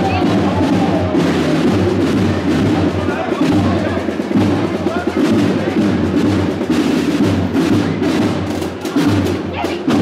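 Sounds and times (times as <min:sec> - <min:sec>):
bass drum: 0:00.0 - 0:10.0
marching band playing: 0:00.0 - 0:10.0
rolling snare drums: 0:00.0 - 0:10.0.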